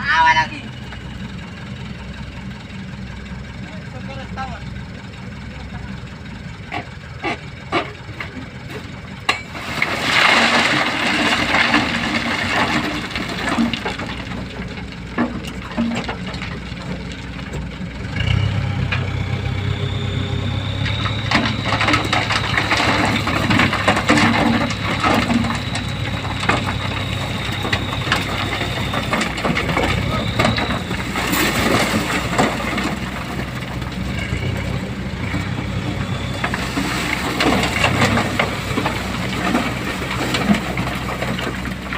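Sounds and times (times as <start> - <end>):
dump truck engine running: 0.0 - 41.9.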